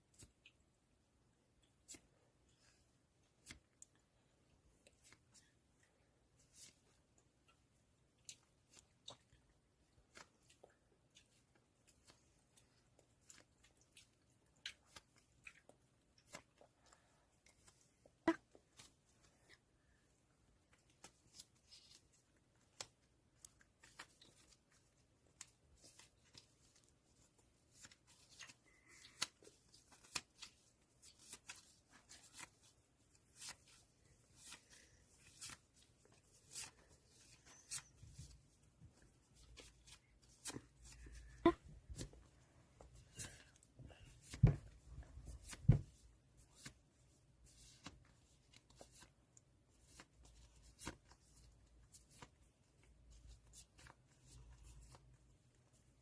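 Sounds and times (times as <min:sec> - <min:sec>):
plastic sleeves rustling and crinkling: 0:08.3 - 0:56.0.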